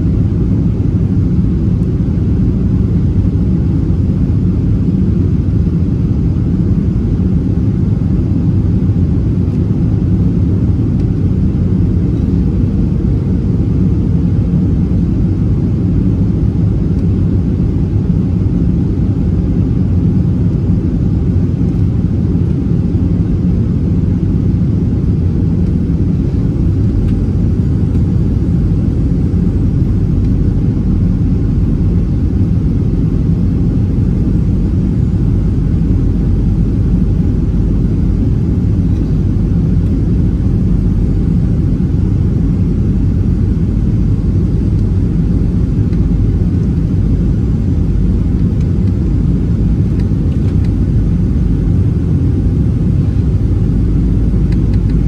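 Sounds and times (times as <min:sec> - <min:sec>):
jet engine low rumble: 0:00.0 - 0:55.0.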